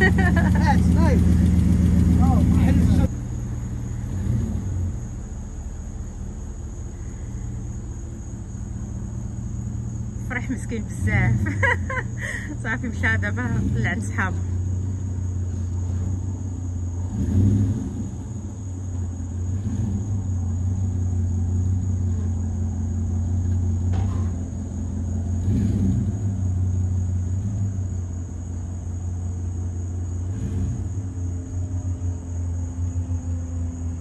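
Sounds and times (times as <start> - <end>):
truck engine rumbling: 0.0 - 34.0.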